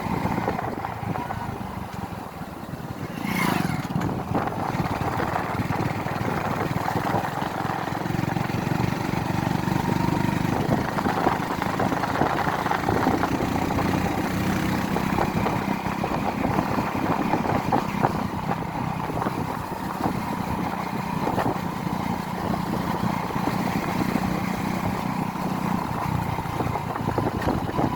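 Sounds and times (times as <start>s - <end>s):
hum of travel noise: 0.0s - 27.9s
vehicle engine running: 0.0s - 27.9s.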